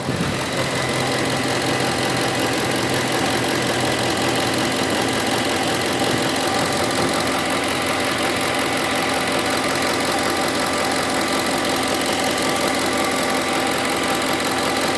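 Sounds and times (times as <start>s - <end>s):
engine idling: 0.0s - 14.9s
engine ticking: 0.0s - 14.9s.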